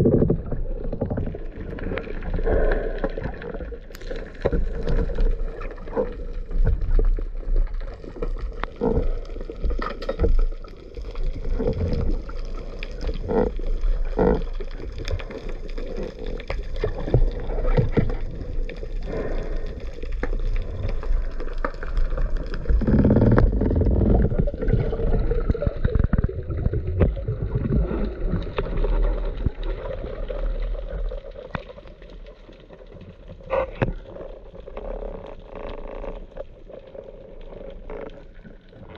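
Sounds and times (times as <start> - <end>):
water sloshing underwater: 0.0 - 38.9.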